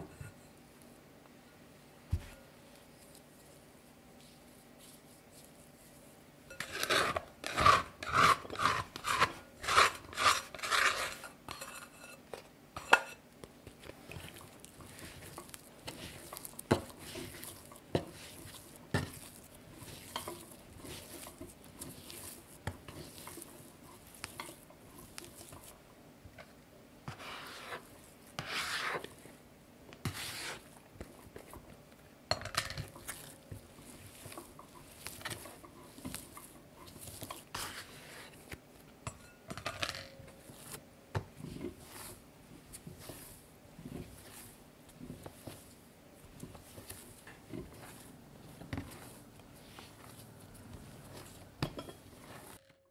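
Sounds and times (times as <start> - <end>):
dough squishing and rubbing: 2.1 - 11.8, 12.8 - 39.3, 40.2 - 52.8.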